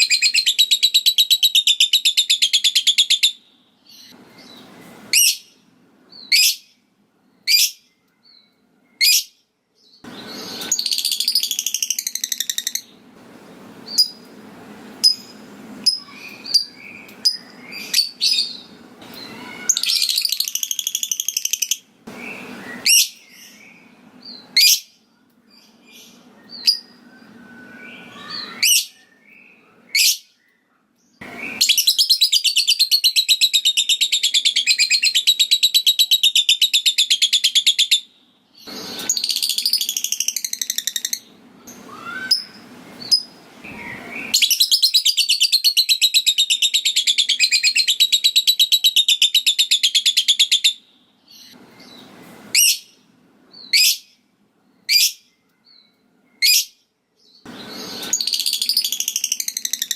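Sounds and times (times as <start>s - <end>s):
high bird chirps: 0.0s - 13.0s, 15.0s - 24.9s, 25.5s - 59.9s.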